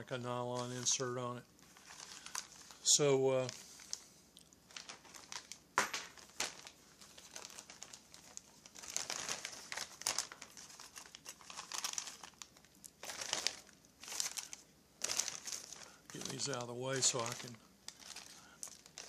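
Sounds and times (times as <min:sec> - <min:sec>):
plastic bags crinkling: 0:00.3 - 0:19.0.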